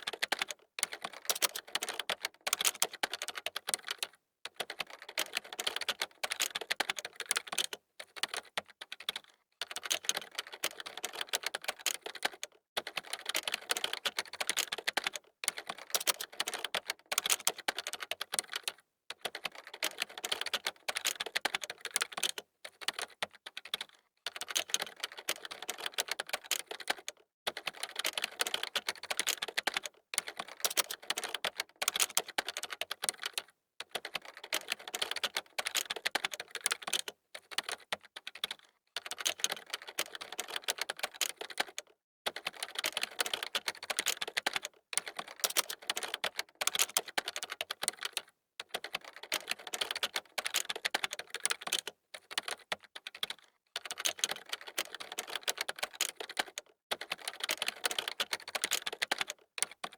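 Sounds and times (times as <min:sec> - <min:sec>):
fast keyboard typing: 0:00.0 - 0:59.9.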